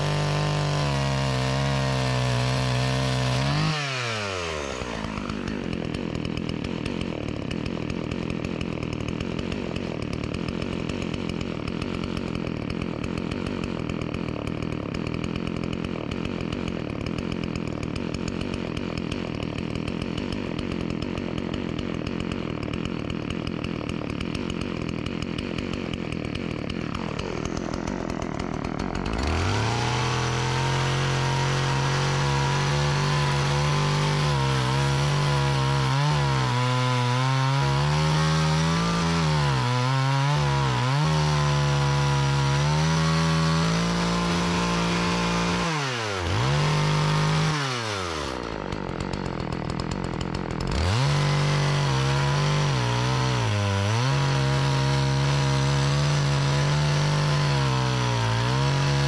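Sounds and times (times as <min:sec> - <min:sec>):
chainsaw cutting a log: 0:00.0 - 0:59.0.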